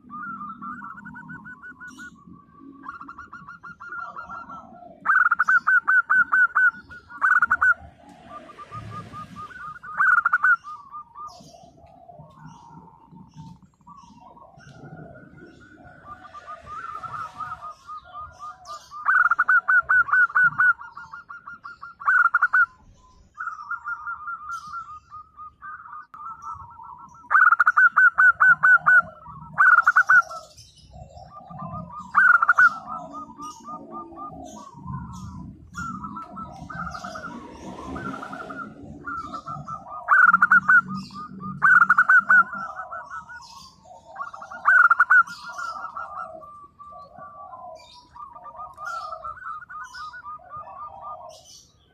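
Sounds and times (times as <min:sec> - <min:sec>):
doves cooing: 0:00.0 - 0:51.9.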